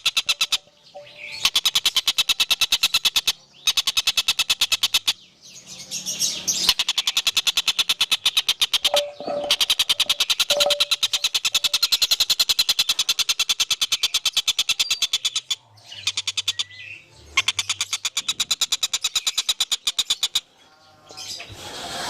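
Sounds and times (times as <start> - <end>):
bird trilling: 0.0 - 5.2, 5.8 - 20.5.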